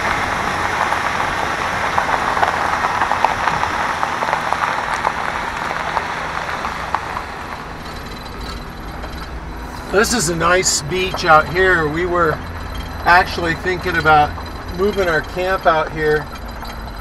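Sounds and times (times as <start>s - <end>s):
low engine rumble: 0.0s - 17.0s
tyres crunching over gravel: 0.0s - 17.0s.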